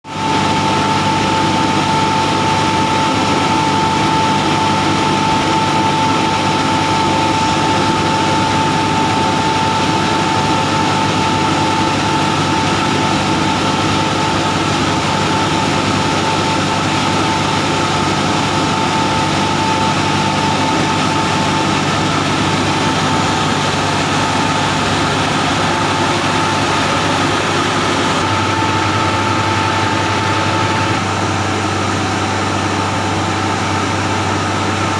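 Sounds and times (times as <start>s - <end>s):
machinery drone with high whine: 0.1s - 34.9s.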